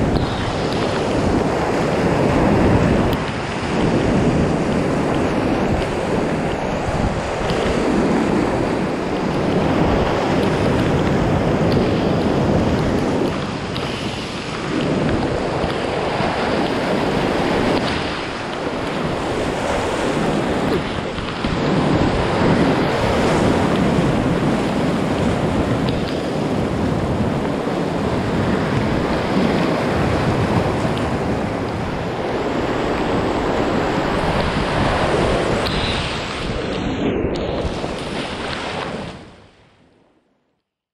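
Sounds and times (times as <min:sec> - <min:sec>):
whitewater rapids rushing: 0:00.0 - 0:36.9
wind buffeting microphone: 0:00.0 - 0:40.1.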